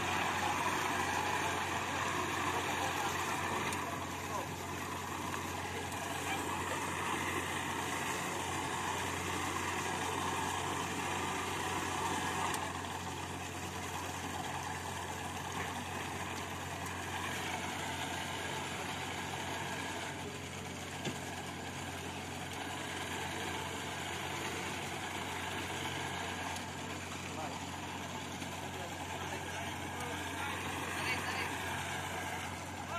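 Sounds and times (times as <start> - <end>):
boat engine idling: 0.0 - 32.9.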